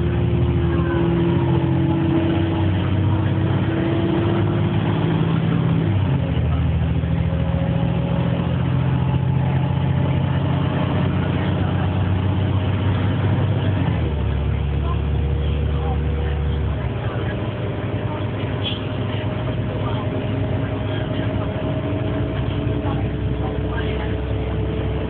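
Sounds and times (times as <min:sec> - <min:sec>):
bus diesel engine drone: 0:00.0 - 0:25.0
engine whine: 0:00.0 - 0:25.0.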